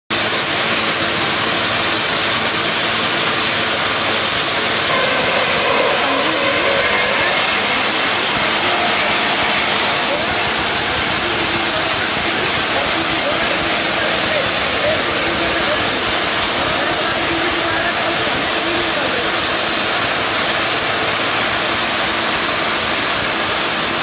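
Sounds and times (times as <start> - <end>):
rock drilling machine: 0.2 - 24.0.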